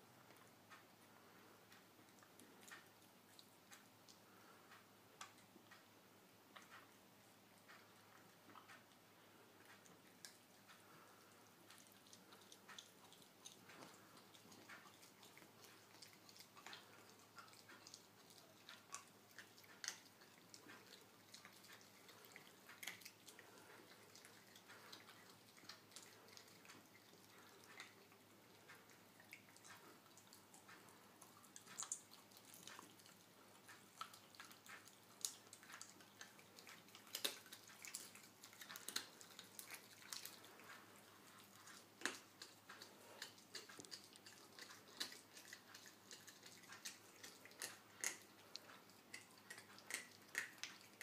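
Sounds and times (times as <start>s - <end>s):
animals chewing wet smacking: 0.3s - 5.9s, 6.5s - 51.0s.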